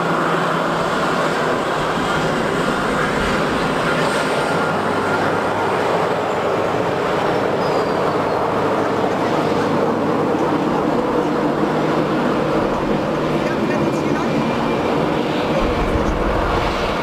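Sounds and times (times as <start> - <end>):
jet engines at low thrust: 0.0 - 17.0.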